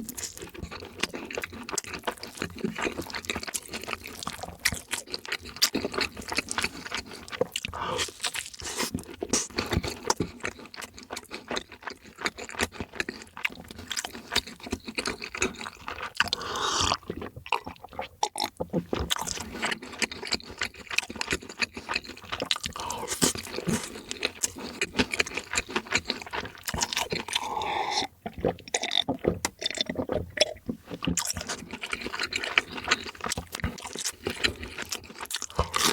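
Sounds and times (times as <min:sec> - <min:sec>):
person chewing crunchy food: 0:00.0 - 0:35.9.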